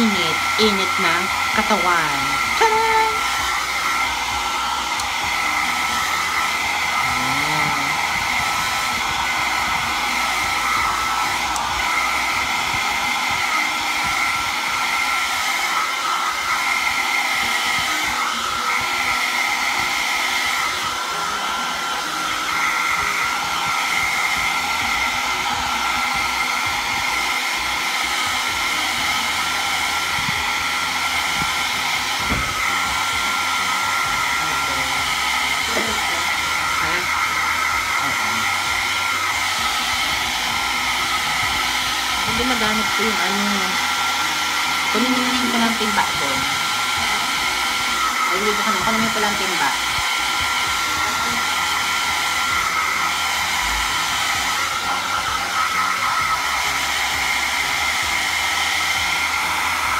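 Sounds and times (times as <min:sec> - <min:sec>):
hair dryer blowing: 0:00.0 - 0:59.9.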